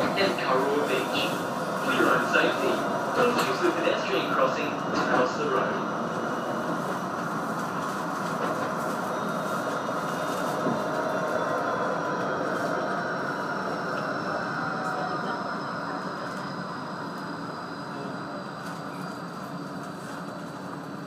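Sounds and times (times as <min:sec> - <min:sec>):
tram wheels rumbling on track: 0:00.0 - 0:21.0.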